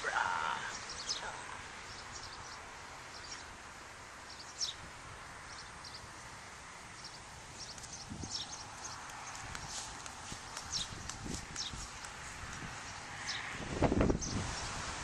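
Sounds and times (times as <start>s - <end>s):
birds chirping: 0.0s - 14.7s
outdoor background noise: 0.0s - 15.0s.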